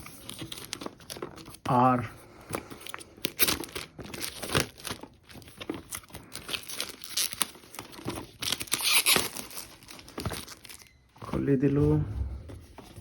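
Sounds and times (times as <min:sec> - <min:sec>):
cardboard packaging crinkling and ripping: 0:00.0 - 0:11.7.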